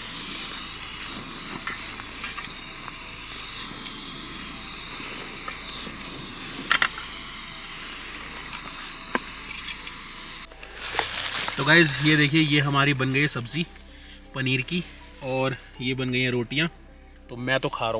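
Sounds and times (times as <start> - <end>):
gas stove burner hissing: 0.0 - 16.1.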